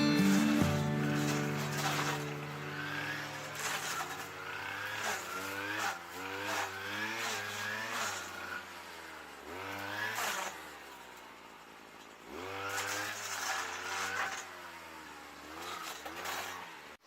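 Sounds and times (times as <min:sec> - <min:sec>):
petrol engine revving: 0:00.0 - 0:17.0.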